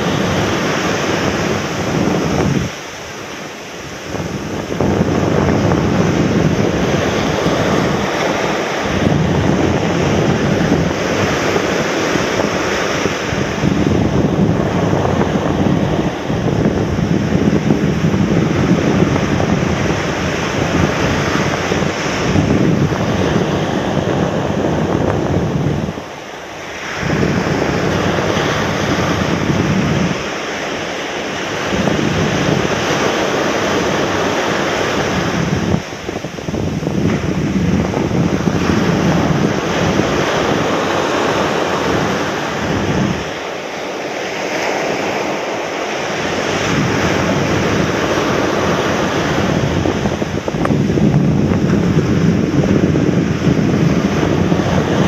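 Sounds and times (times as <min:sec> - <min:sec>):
surf breaking on beach: 0:00.0 - 0:55.0
wind buffeting microphone: 0:00.0 - 0:55.0.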